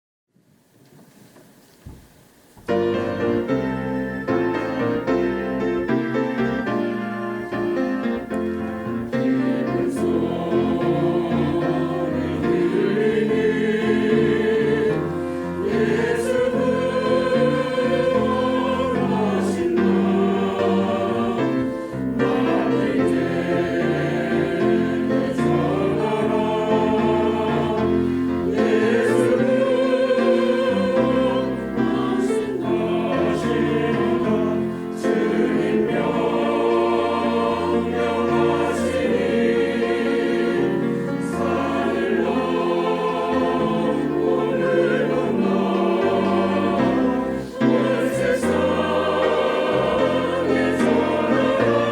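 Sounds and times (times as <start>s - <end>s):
church choir singing: 2.7s - 51.9s.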